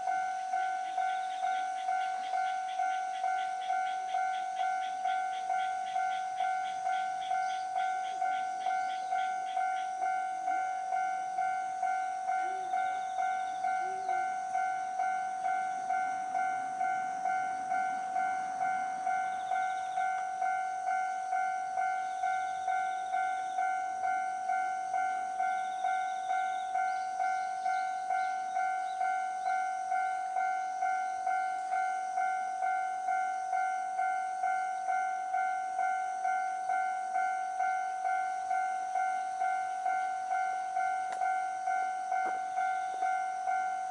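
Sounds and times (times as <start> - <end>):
level crossing warning bell: 0.0 - 43.9.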